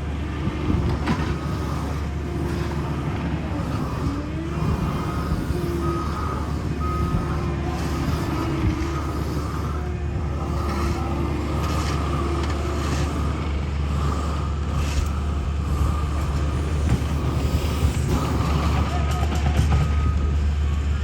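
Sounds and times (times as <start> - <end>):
high whine: 0.0 - 20.2
heavy machinery engines droning: 0.0 - 21.0.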